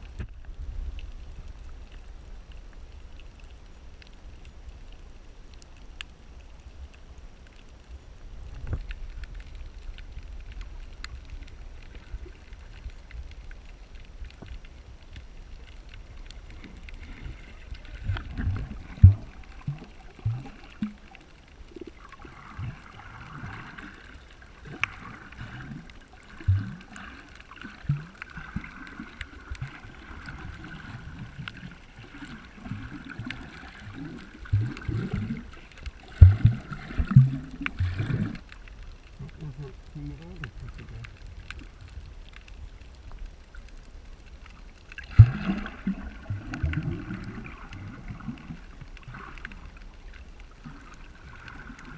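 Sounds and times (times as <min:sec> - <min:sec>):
water sloshing and gurgling: 0:00.0 - 0:51.9.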